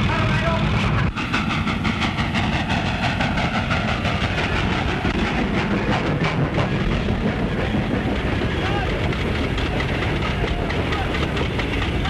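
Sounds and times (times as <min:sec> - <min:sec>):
train wheels clickety-clack: 0:00.0 - 0:12.0.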